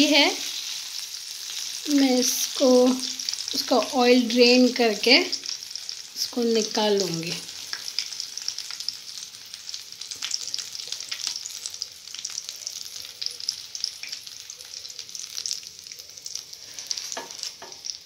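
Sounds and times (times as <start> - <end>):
hot oil sizzling and popping: 0.0 - 18.0.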